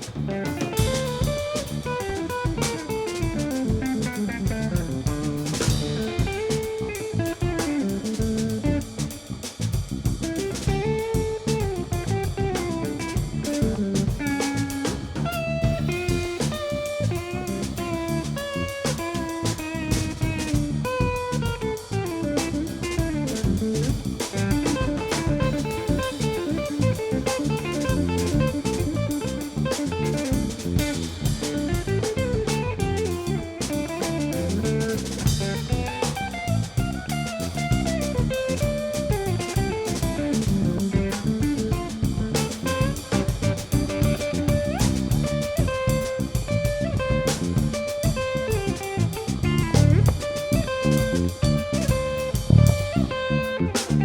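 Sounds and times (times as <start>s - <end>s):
guitar melody: 0.0s - 9.0s, 10.3s - 54.0s
bass: 0.0s - 54.0s
drum kit: 0.0s - 54.0s.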